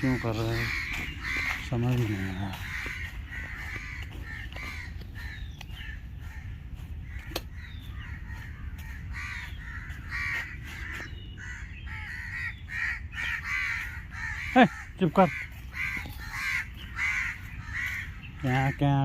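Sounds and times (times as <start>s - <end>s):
crows cawing: 0.0s - 19.0s.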